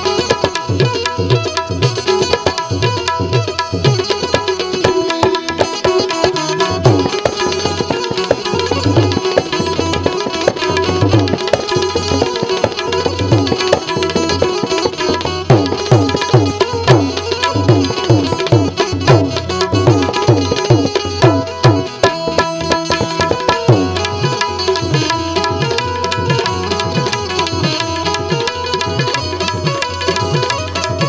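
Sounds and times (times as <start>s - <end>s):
held melodic instrument notes: 0.0s - 31.0s
tabla playing: 0.0s - 31.0s.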